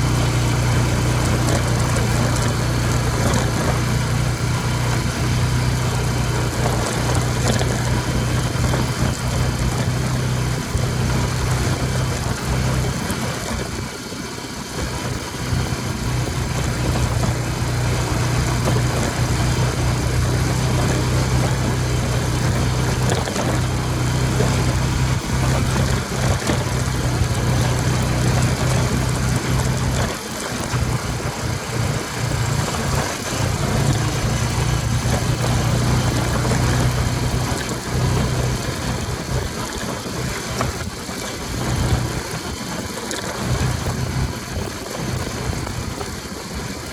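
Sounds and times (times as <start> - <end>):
atv engine humming: 0.0 - 46.9.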